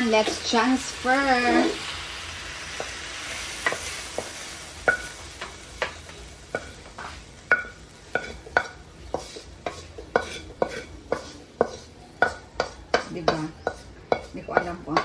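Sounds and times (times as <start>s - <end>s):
faint sizzle: 0.0s - 15.0s
spatula scraping metal wok: 0.0s - 15.0s.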